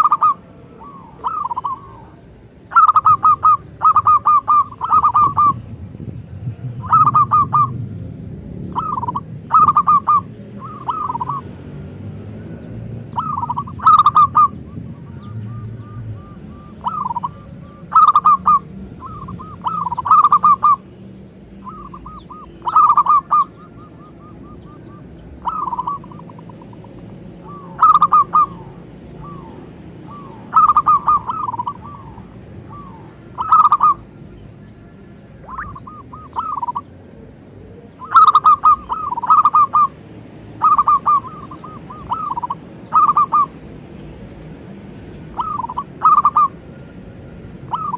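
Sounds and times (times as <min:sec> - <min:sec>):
dove cooing: 0:00.0 - 0:05.7, 0:06.3 - 0:07.9, 0:08.7 - 0:11.6, 0:12.5 - 0:20.9, 0:21.6 - 0:34.1, 0:35.4 - 0:43.6, 0:45.3 - 0:46.6, 0:47.6 - 0:47.9.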